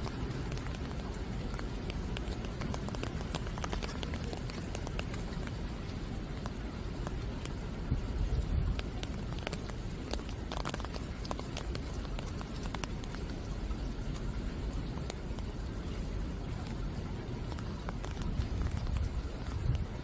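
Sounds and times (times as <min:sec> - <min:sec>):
drops ticking on leaves: 0:00.0 - 0:20.0
low steady rumble: 0:00.0 - 0:20.0
rain hissing on plants: 0:00.0 - 0:20.0.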